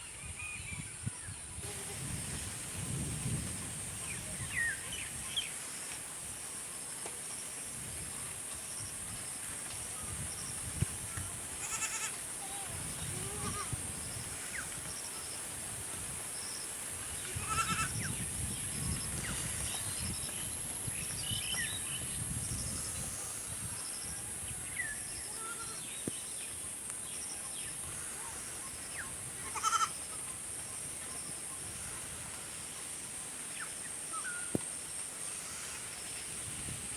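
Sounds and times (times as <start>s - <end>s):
steady high hiss: 0.0s - 36.9s.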